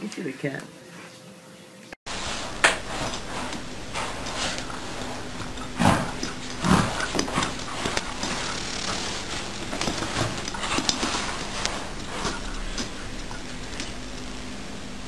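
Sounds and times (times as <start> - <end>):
cat scratching in fabric bed: 2.1 - 14.5.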